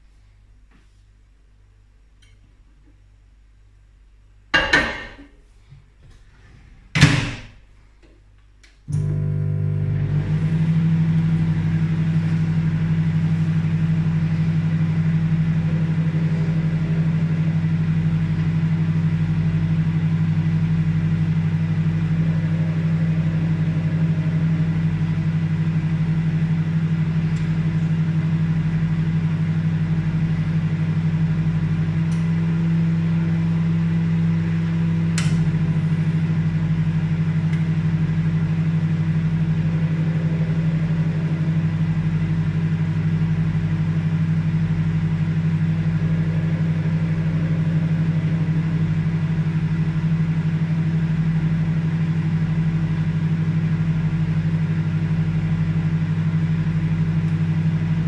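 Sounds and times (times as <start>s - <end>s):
microwave oven humming: 8.7s - 58.0s.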